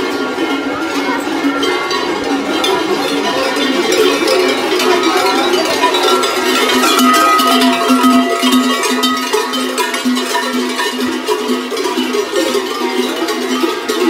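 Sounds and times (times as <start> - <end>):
cowbells clanging: 0.0 - 14.0.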